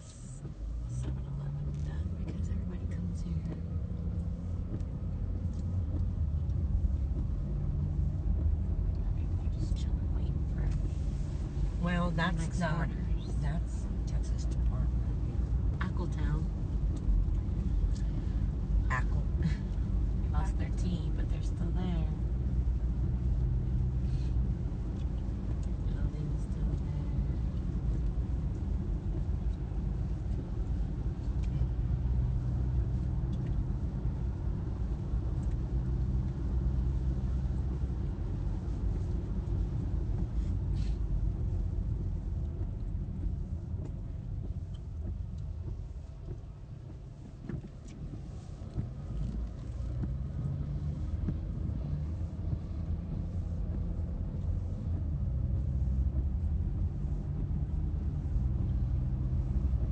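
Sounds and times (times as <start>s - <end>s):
car engine and tyres on wet road: 0.0s - 59.9s.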